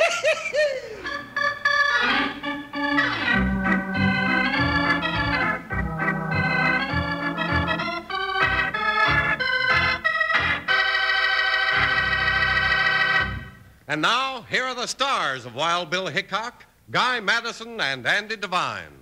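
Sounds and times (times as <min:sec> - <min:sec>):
organ chords: 0:00.0 - 0:15.8.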